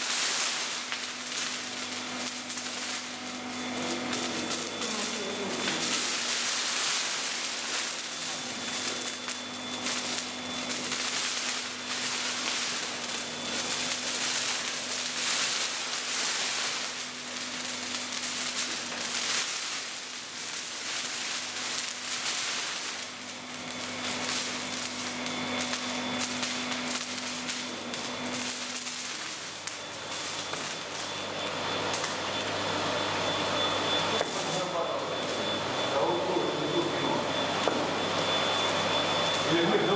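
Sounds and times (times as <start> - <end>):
molten metal hissing and crackling: 0.0 - 39.9.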